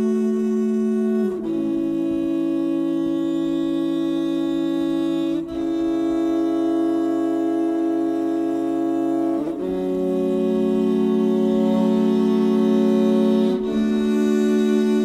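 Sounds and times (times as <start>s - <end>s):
slow low sustained music: 0.0s - 15.0s.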